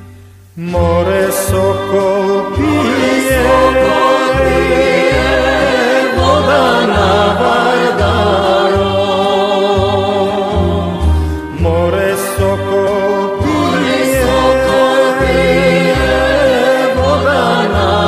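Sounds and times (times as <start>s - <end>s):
bass long even notes: 0.0s - 18.0s
instrumental accompaniment: 0.0s - 18.0s
person singing: 0.6s - 18.0s.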